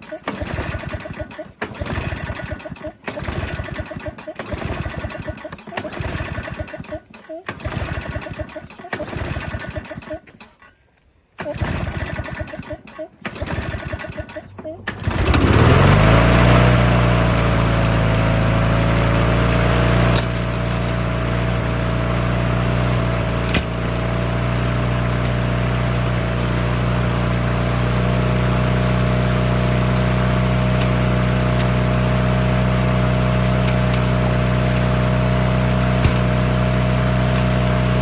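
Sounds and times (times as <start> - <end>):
lawn mower engine running: 0.0 - 10.6, 11.4 - 38.0.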